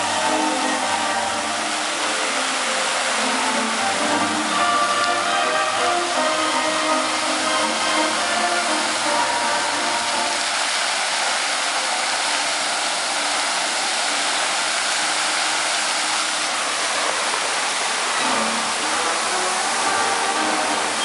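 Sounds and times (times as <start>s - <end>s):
fountain water jets splashing: 0.0s - 21.0s.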